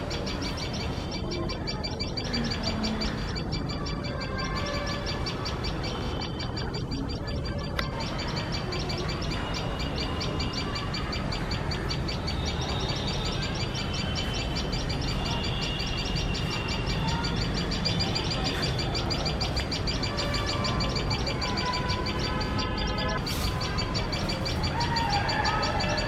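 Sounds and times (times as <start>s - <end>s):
birds shrill alarm calls: 0.0s - 26.0s.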